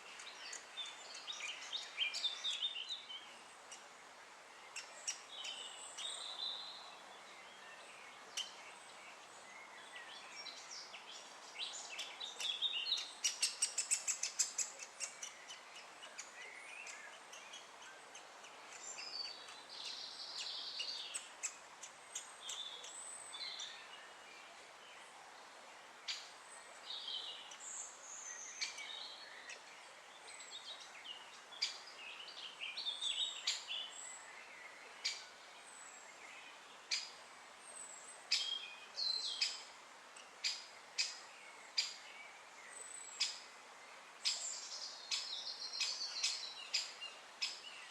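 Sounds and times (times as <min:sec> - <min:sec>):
birds chirping: 0:00.0 - 0:03.9, 0:04.6 - 0:25.1, 0:26.0 - 0:47.9.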